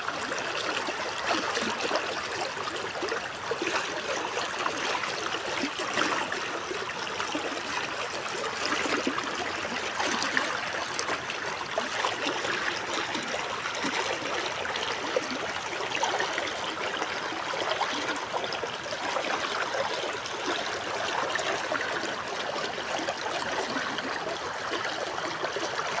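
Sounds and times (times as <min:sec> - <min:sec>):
river water babbling: 0:00.0 - 0:26.0.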